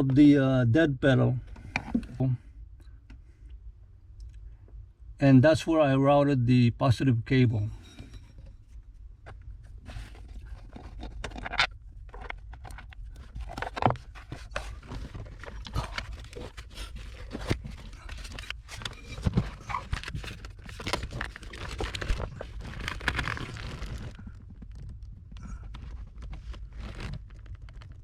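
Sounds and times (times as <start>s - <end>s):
low steady rumble: 0.0s - 28.0s.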